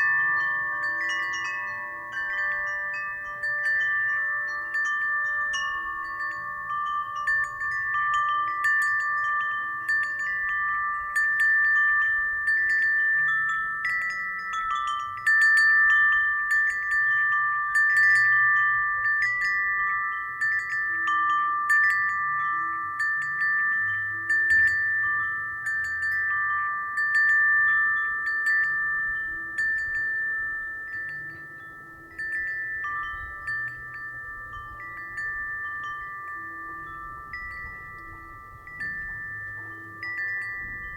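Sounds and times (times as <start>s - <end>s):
wind chime ringing: 0.0s - 40.9s.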